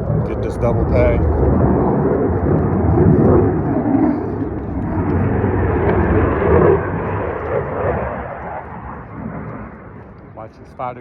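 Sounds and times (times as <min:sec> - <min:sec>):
fighter jet roar overhead: 0:00.0 - 0:11.0.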